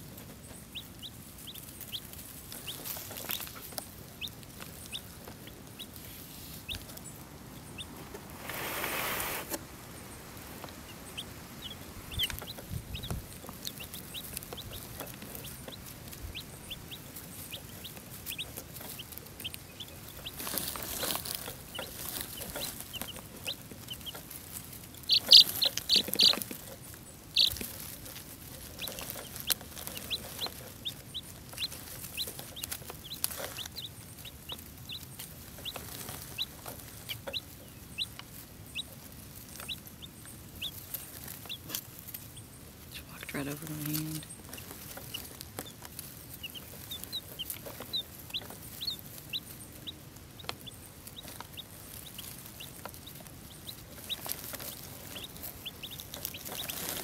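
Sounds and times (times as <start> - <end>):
baby chicks peeping: 0.0 - 57.0.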